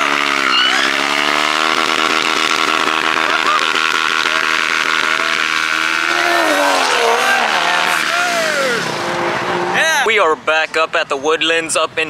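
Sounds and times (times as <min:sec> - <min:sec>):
motorcycle engine at high revs: 0:00.0 - 0:10.0.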